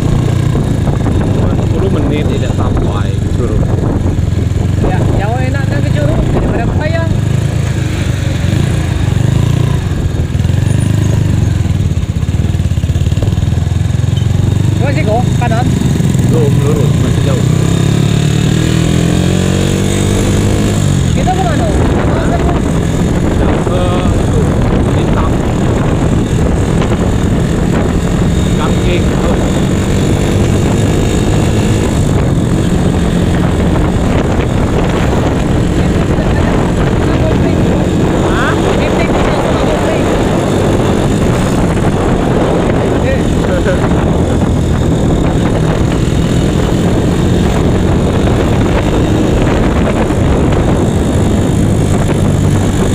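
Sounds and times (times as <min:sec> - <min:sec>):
scooter engine throbbing: 0:00.0 - 0:52.9
wind on microphone: 0:00.0 - 0:52.9.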